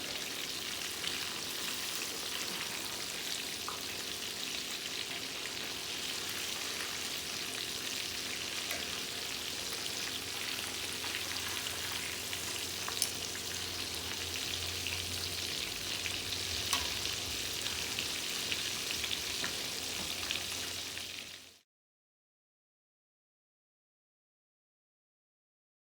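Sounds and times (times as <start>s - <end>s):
food sizzling in hot oil: 0.0s - 21.6s.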